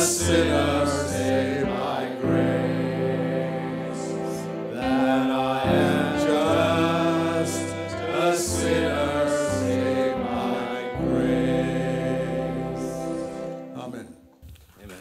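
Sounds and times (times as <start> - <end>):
men singing slow song: 0.0 - 13.5.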